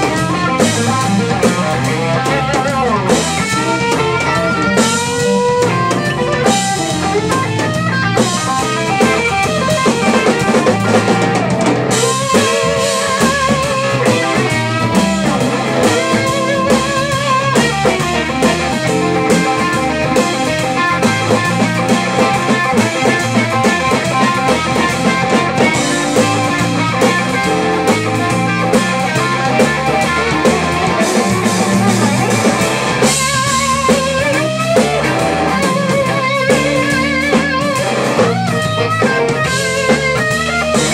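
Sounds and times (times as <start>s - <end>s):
drum kit: 0.0s - 40.9s
electric guitar solo: 0.0s - 40.9s.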